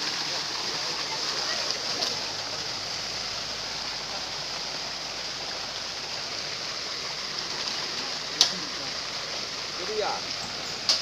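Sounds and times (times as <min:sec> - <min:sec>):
fish splashing in water: 0:00.0 - 0:11.0.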